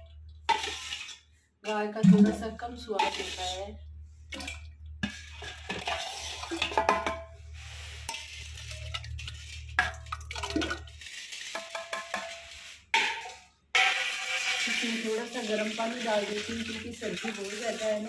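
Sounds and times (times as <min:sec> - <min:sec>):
metal pot and bowl clinking: 0:02.0 - 0:03.6, 0:04.4 - 0:18.0.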